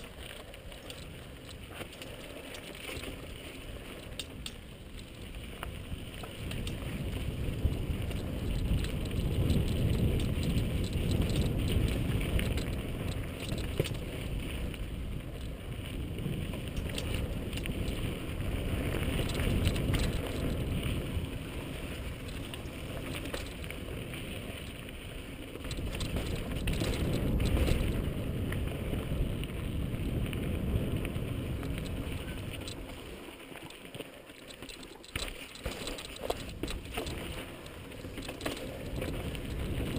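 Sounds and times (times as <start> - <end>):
wind rumbling on microphone: 0.0 - 33.7, 34.5 - 39.9
bike clicking and rattling: 0.0 - 39.9.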